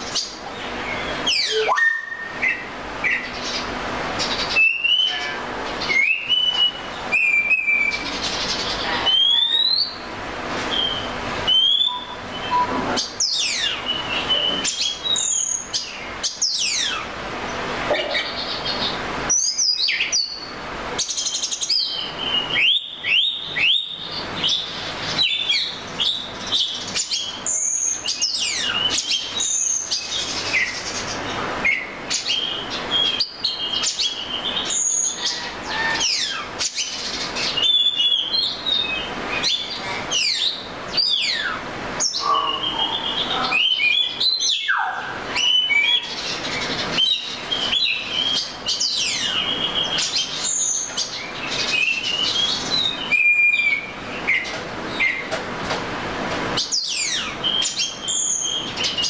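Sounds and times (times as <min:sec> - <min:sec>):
bird singing whistles and trills: 0:00.1 - 0:03.4, 0:04.3 - 0:10.1, 0:10.7 - 0:17.0, 0:19.3 - 0:31.0, 0:31.6 - 0:55.3, 0:56.6 - 0:59.0.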